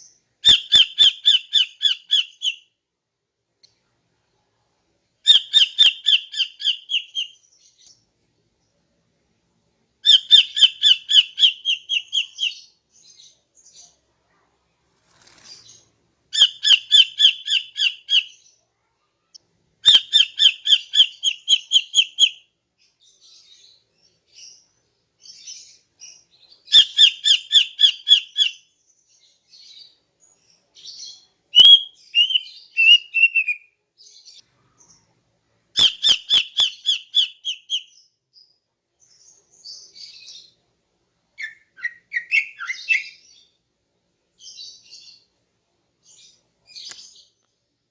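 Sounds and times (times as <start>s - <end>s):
faint bird chirps: 0.0s - 2.8s, 3.6s - 8.9s, 10.0s - 40.7s, 41.4s - 43.6s, 44.3s - 45.4s.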